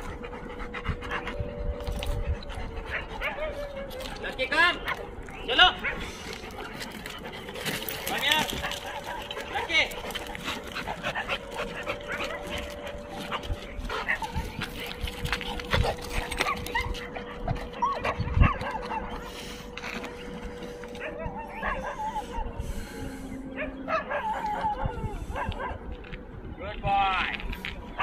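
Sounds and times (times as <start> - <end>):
dogs barking and whining: 0.0 - 26.3, 27.8 - 28.0.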